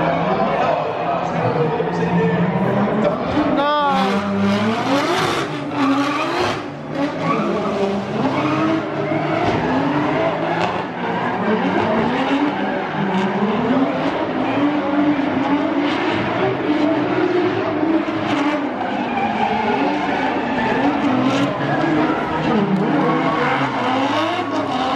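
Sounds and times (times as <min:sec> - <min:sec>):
car engines revving: 0:00.0 - 0:24.9
tyres skidding: 0:00.0 - 0:24.9.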